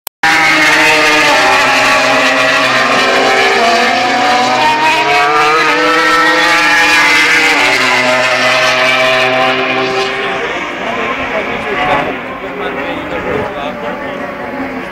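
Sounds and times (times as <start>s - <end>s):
racing motorcycle engines revving: 0.2s - 14.9s.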